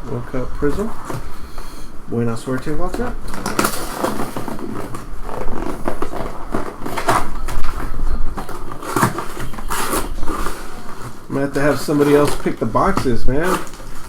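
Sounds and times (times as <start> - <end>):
plastic wrapping crinkling: 0.1 - 14.0
cardboard handling: 2.5 - 14.0.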